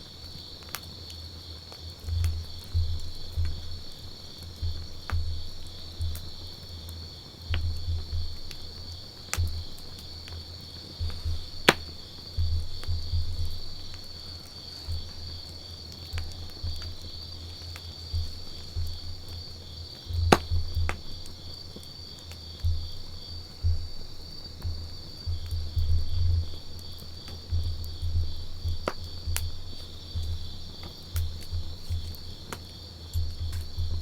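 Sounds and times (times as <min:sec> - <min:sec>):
campfire crackling: 0:00.0 - 0:34.0
sharp pops of fire: 0:00.0 - 0:34.0.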